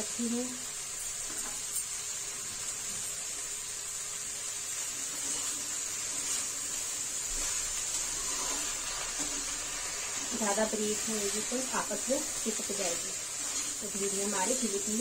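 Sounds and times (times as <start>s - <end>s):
okra sizzling in hot oil: 0.0s - 15.0s.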